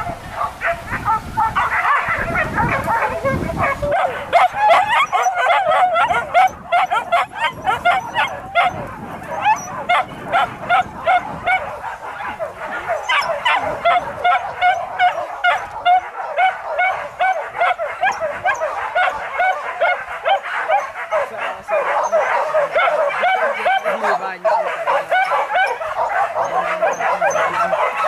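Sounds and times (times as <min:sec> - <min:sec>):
dogs yelping and baying: 0:00.0 - 0:28.0.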